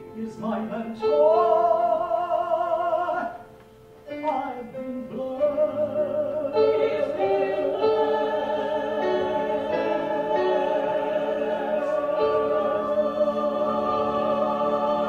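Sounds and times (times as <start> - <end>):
wordless musical theatre singing: 0.0 - 15.0.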